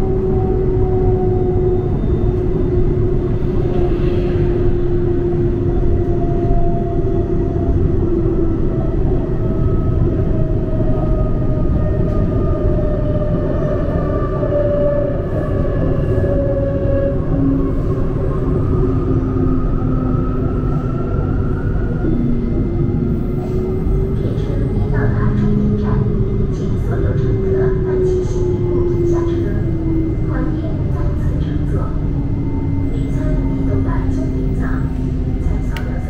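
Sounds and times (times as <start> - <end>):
tram rumbling: 0.0 - 36.0.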